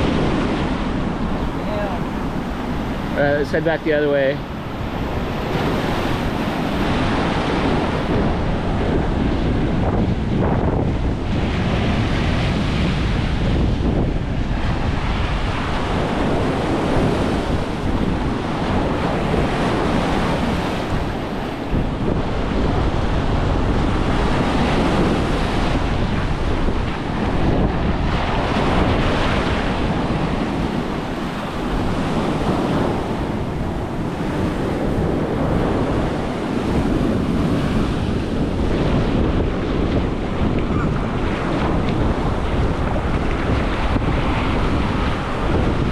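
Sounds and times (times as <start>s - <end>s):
ocean surf breaking on sand: 0.0s - 45.9s
wind buffeting microphone: 0.0s - 45.9s.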